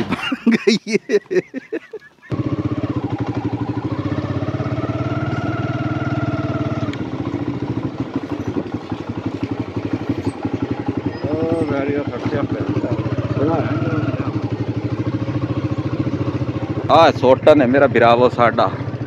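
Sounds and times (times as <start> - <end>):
small motorcycle engine accelerating: 1.8 - 19.0.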